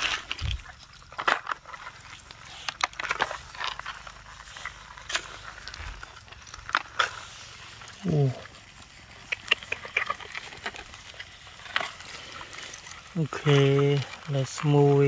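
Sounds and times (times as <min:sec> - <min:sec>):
rustling and crackling vegetation: 0:00.0 - 0:15.0.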